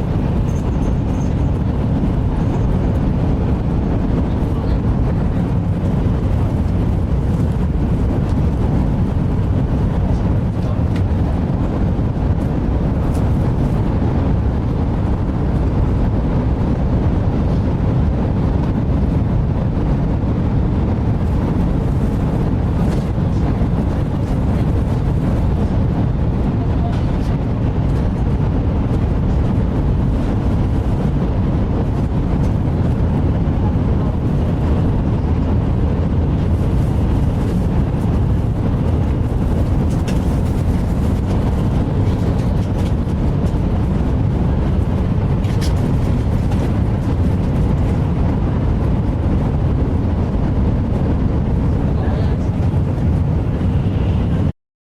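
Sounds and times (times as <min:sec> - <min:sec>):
train rumble inside cabin: 0:00.0 - 0:54.5.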